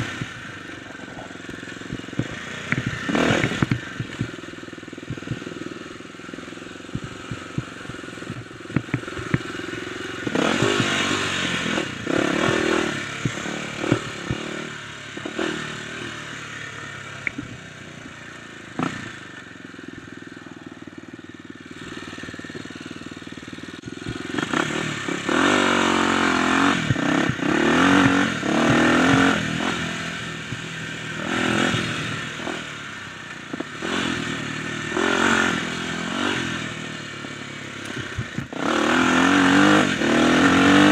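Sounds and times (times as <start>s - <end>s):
dirt bike engine revving: 0.0s - 40.9s
knocks and rattles from bike: 0.0s - 40.9s.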